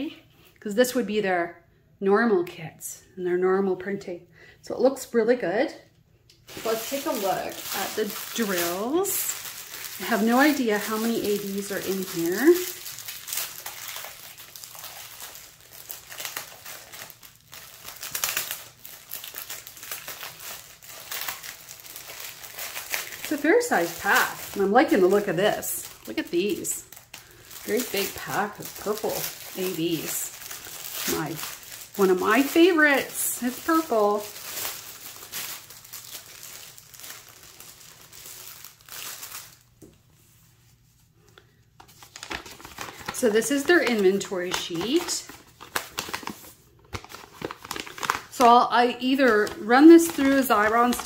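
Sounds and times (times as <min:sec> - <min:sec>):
plastic packets crinkling: 0:06.4 - 0:39.8, 0:41.8 - 0:51.0.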